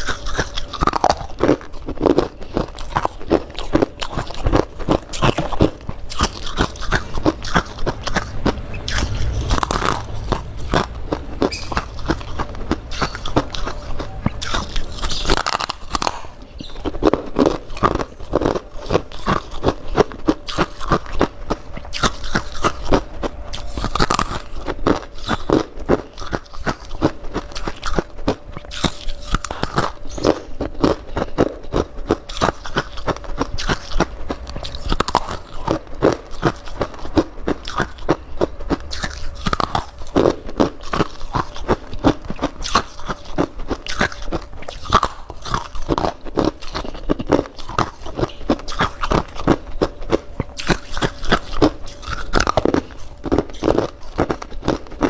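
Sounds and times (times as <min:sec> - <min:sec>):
chewing crunchy frost: 0:00.0 - 0:55.0.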